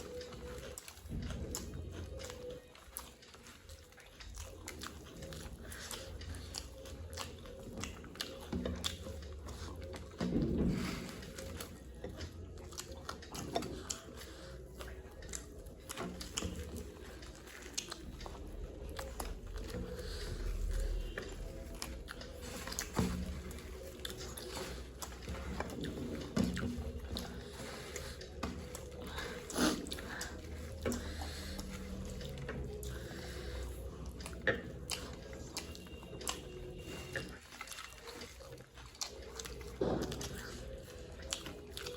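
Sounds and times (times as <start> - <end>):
people chewing and crunching food: 0.0 - 41.9.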